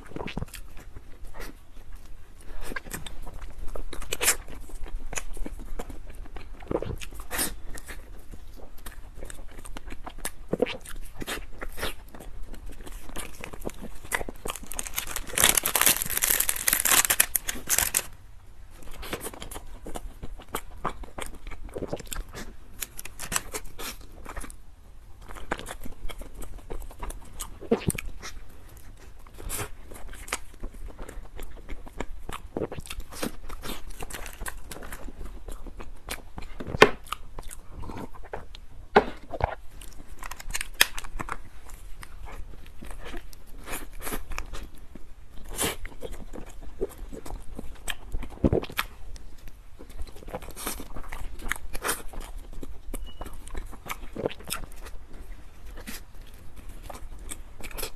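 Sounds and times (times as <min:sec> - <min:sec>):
chewing with wet mouth smacks: 0:00.0 - 0:18.0, 0:18.7 - 0:57.9.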